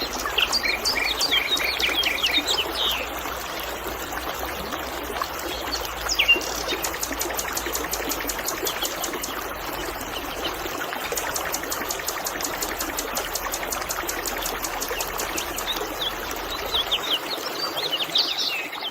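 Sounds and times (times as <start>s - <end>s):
birds chirping: 0.0s - 18.9s
river water babbling: 0.0s - 18.9s.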